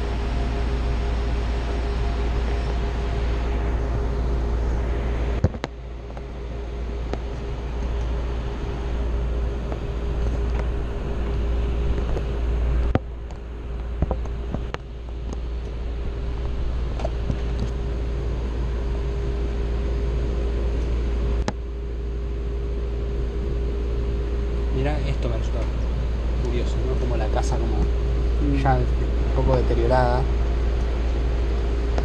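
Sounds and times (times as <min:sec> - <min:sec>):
train car rumble: 0:00.0 - 0:18.8, 0:24.4 - 0:32.0
constant hum: 0:00.0 - 0:32.0.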